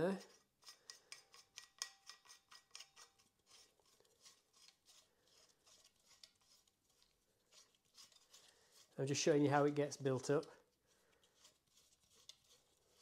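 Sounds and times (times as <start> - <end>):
metallic clicking and scraping: 0.2 - 9.0, 9.6 - 13.0.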